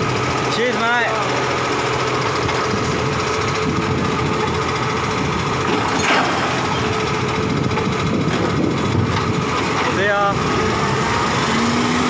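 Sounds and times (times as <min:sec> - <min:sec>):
garbage truck hydraulics whining: 0:00.0 - 0:12.0.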